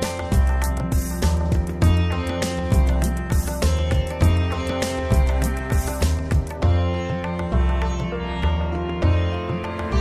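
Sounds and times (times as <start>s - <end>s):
plucked strings over bass beat: 0.0s - 10.0s.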